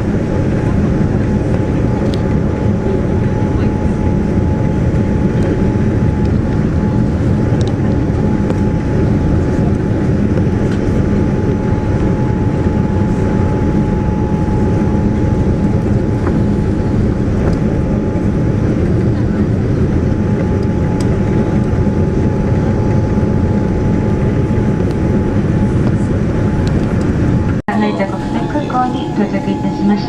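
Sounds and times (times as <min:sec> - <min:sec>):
airliner engines and airflow rumble: 0:00.0 - 0:30.0.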